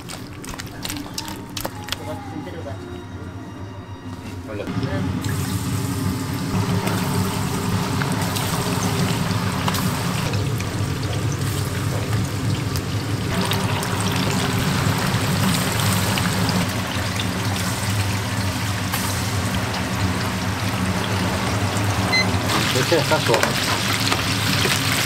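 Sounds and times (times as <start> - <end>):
steady low hum: 2.6 - 22.9
oil bubbling and sizzling: 4.7 - 25.0.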